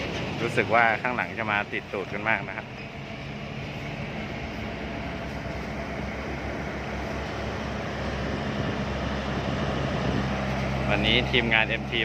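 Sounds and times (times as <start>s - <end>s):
truck diesel engines droning: 0.0s - 12.0s.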